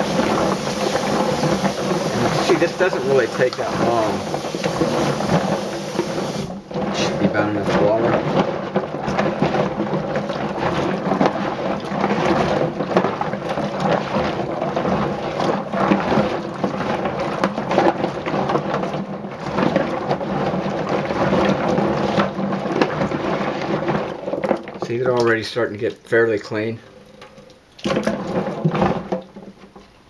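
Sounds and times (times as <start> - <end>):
nuts clattering in metal sink: 0.0 - 25.4
water sloshing: 0.0 - 30.0.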